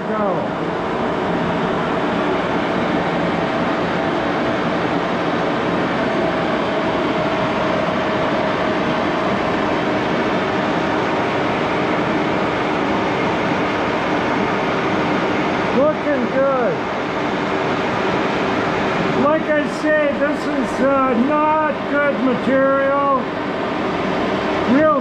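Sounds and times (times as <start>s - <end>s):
lathe running: 0.0s - 25.0s.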